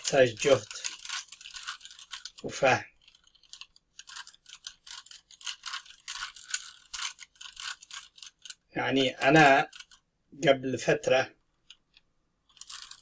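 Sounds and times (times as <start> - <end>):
puzzle cube plastic clicks: 0.0 - 10.0, 11.5 - 13.0.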